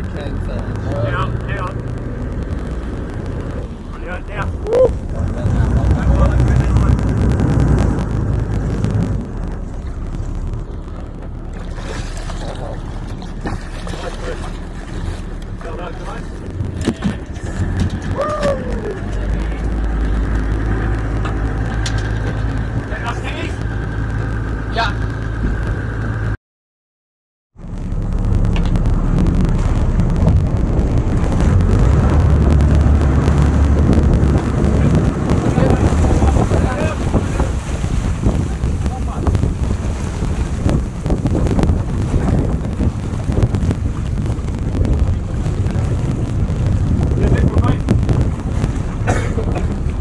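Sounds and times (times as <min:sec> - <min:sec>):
sea water washing alongside boat: 0:00.0 - 0:26.4, 0:27.6 - 0:50.0
wind: 0:00.0 - 0:26.4, 0:27.5 - 0:50.0.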